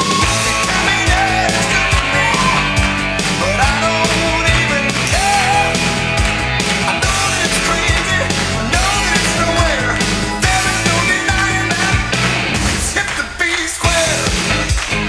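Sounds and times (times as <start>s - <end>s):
rock music with heavy beat: 0.0s - 15.0s.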